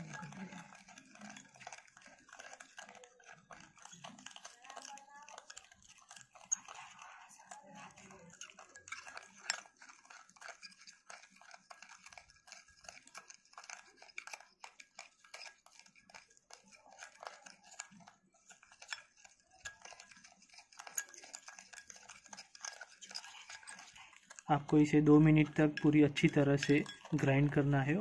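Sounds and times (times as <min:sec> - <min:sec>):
spoon whisking in glass bowl: 0:00.0 - 0:28.0.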